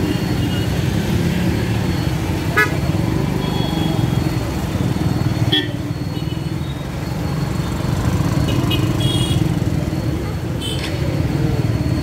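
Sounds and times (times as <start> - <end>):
scooters and car passing: 0.0 - 12.0.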